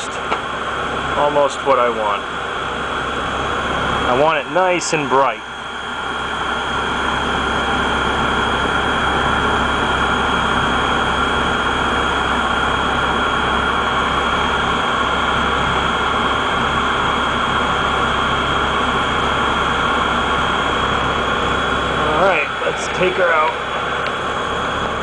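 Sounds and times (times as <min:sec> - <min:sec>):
boiler burner rushing: 0:00.0 - 0:25.0.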